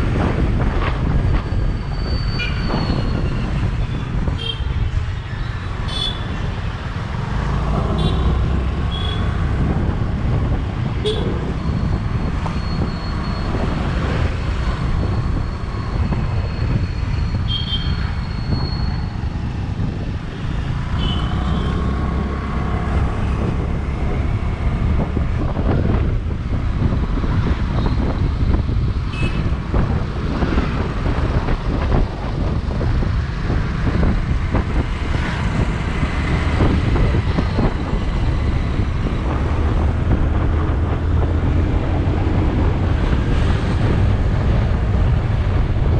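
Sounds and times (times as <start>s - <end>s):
motorcycle riding rumble: 0.0s - 45.9s
traffic: 0.0s - 45.9s.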